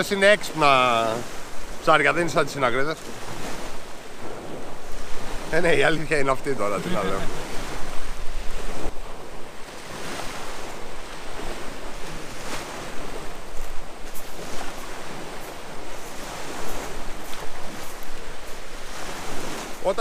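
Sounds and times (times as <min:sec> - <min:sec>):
surf washing onto shore: 0:00.0 - 0:20.0
wind on microphone: 0:03.0 - 0:19.9.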